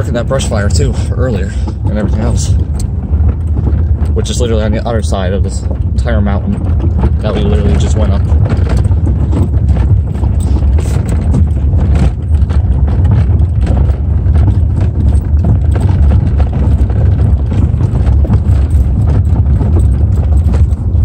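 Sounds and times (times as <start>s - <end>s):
suspension knocks and rattles: 0.0s - 21.0s
tyres rumbling on dirt trail: 0.0s - 21.0s.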